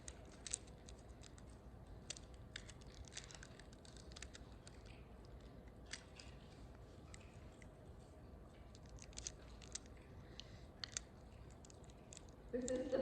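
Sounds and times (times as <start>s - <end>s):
packaging crinkling: 0.0s - 7.3s, 8.6s - 12.9s.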